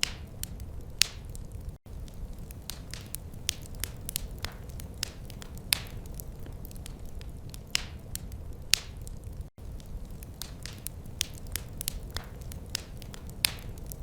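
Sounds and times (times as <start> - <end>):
fire crackles and pops: 0.0 - 14.0
wood fire rumbling: 0.0 - 14.0.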